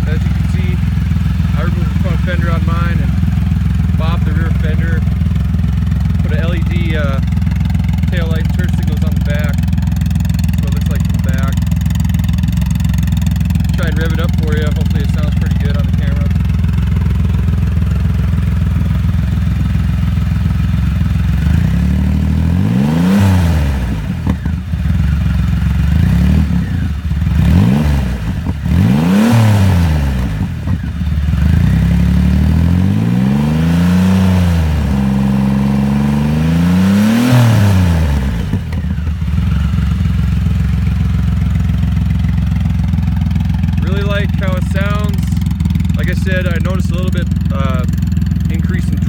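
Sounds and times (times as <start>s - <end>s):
motorcycle engine idling and revving: 0.0s - 49.0s.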